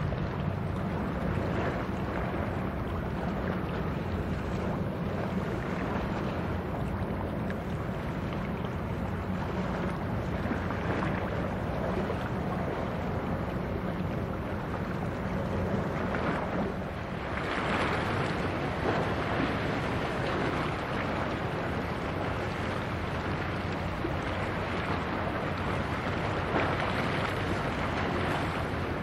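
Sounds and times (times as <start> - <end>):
wind on microphone: 0.0 - 29.0.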